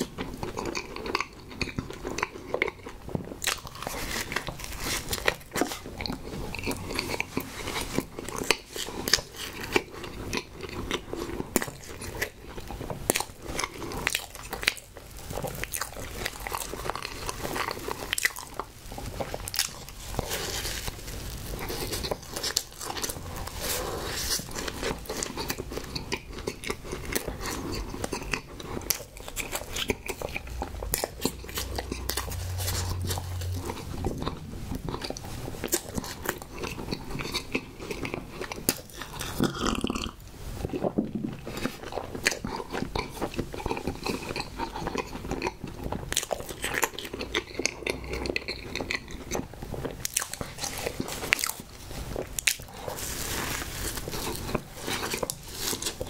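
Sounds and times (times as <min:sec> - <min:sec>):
close-miked chewing: 0:00.0 - 0:56.0.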